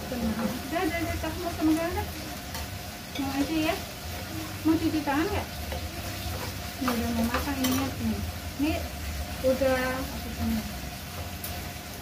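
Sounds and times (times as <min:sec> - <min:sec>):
beef sizzling on grill pan: 0:00.0 - 0:12.0.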